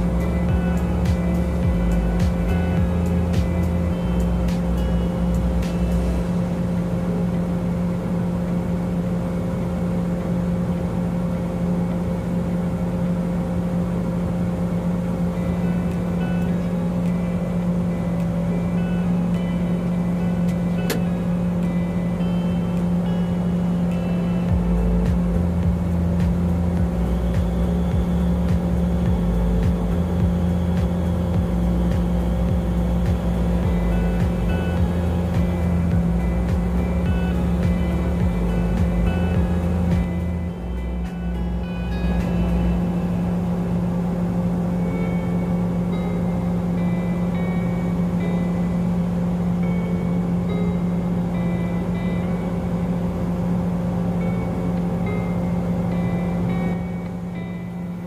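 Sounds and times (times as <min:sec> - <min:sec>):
music with bass beat: 0:00.0 - 0:10.2, 0:14.8 - 0:58.0
engine idling hum: 0:00.0 - 0:58.0.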